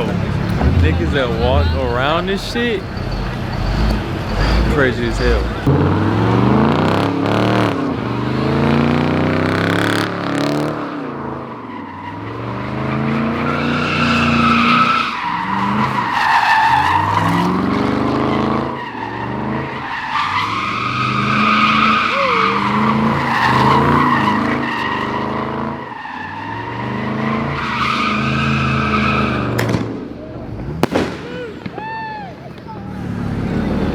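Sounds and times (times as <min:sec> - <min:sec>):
car engine revving: 0:00.0 - 0:31.4, 0:32.6 - 0:33.9
tires squealing: 0:00.0 - 0:33.9.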